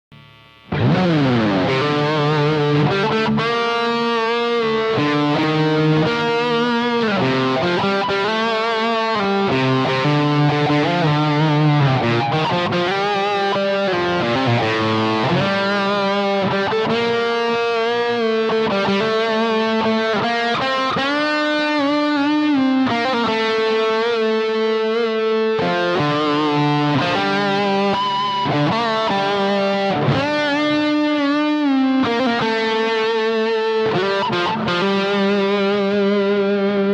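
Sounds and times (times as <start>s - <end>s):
overdriven electric guitar lead: 0.1s - 36.9s.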